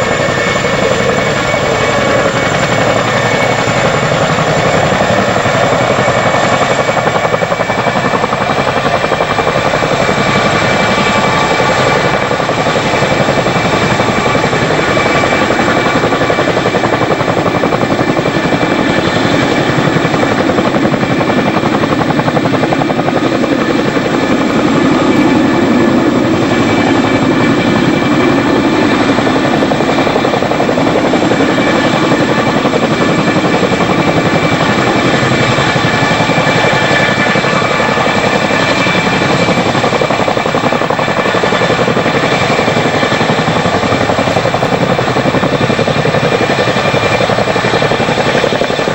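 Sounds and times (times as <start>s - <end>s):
helicopter rotor beat: 0.0s - 48.9s
turbine engine whine: 0.0s - 48.9s.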